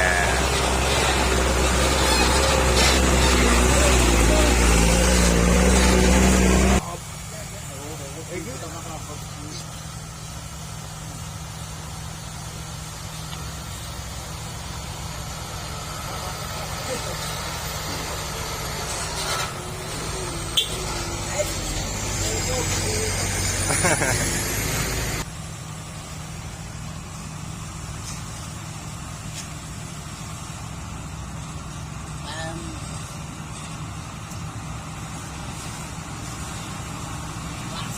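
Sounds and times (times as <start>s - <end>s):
truck diesel engine running: 0.0s - 37.9s.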